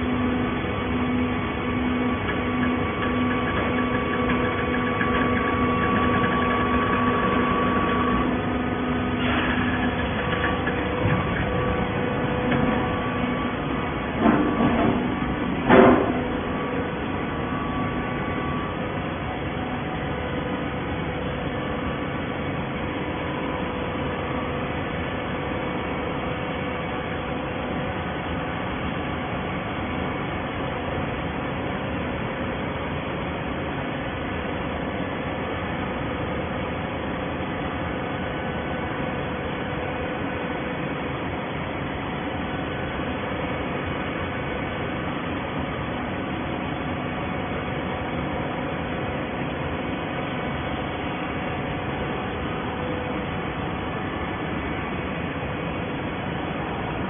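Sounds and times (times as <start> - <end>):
baling machine humming and whirring: 0.0 - 57.0.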